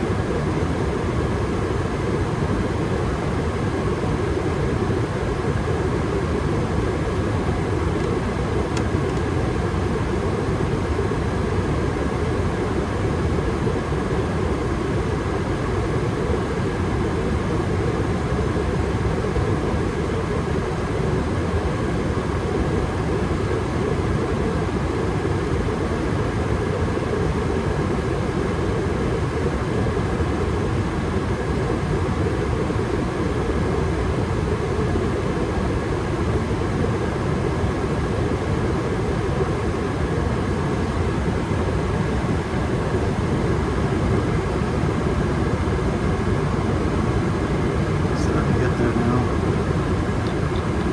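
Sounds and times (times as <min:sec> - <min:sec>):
gas furnace running: 0:00.0 - 0:50.9.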